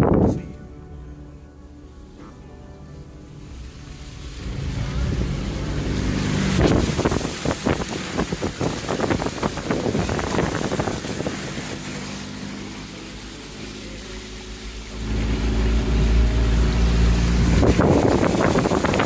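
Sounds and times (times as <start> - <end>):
car engine hum: 0.0 - 19.0
water splashing against car: 3.2 - 19.0.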